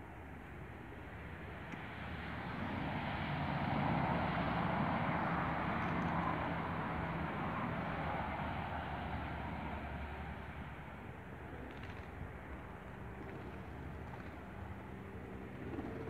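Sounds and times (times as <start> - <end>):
motor vehicle passing: 1.8 - 16.0.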